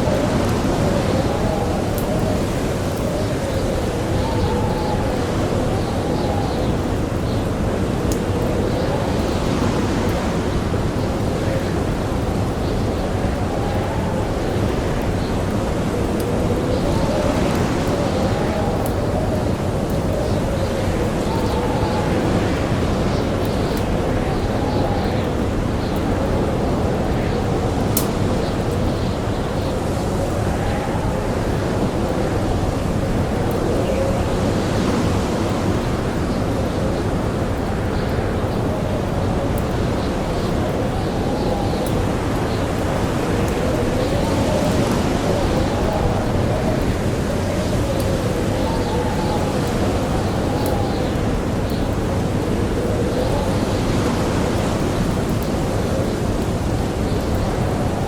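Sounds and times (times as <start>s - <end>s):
blizzard wind howling: 0.0s - 58.0s
campfire crackling: 0.0s - 58.0s.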